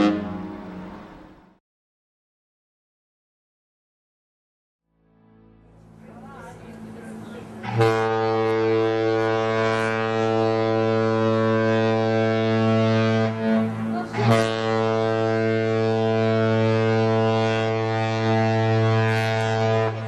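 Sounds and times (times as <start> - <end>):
deep ship's horn blasts: 0.0 - 1.6, 5.1 - 20.0.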